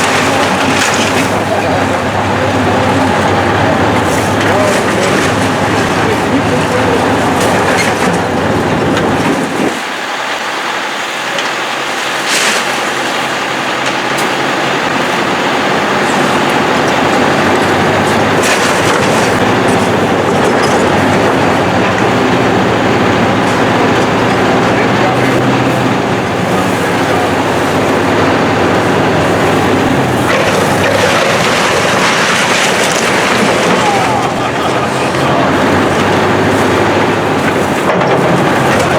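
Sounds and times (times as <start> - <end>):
clanking and crunching of metal debris: 0.0 - 38.9
demolition machine engine running: 0.0 - 38.9.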